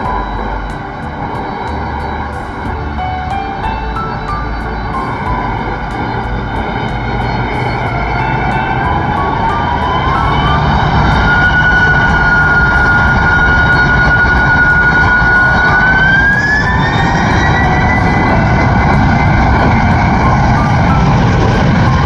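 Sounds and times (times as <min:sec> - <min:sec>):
jet engine whine rising: 0:00.0 - 0:22.0
jet engines roaring: 0:00.0 - 0:22.0.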